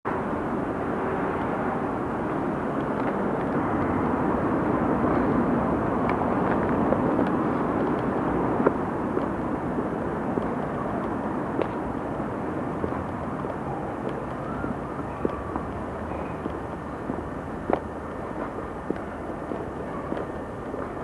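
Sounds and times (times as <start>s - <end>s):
steady rushing noise: 0.1s - 21.0s.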